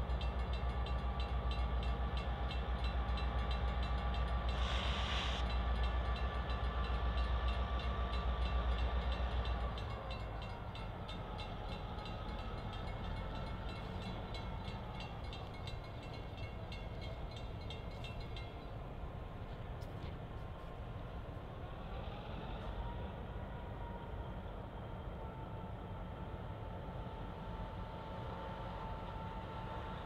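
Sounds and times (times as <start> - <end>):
diesel locomotive engine rumbling: 0.0 - 30.0.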